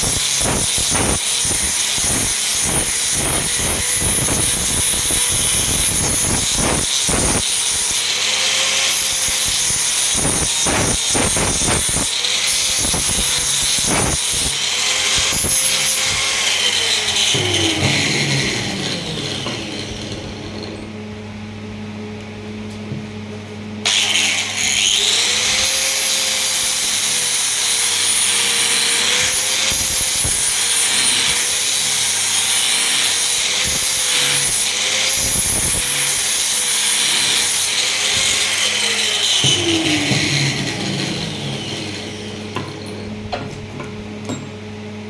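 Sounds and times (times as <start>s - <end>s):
power tool sanding wood: 0.0s - 21.0s, 23.9s - 44.2s.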